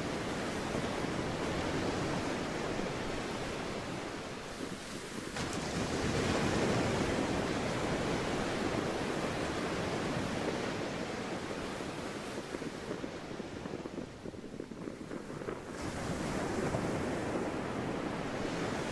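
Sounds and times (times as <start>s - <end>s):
sea waves washing in: 0.0s - 18.9s.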